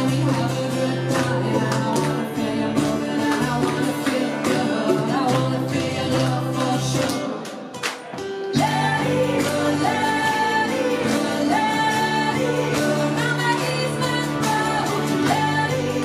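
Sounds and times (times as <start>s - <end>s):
electric bass: 0.0s - 7.2s, 8.6s - 16.0s
woman singing: 0.0s - 7.6s, 8.5s - 16.0s
acoustic guitar: 0.0s - 16.0s.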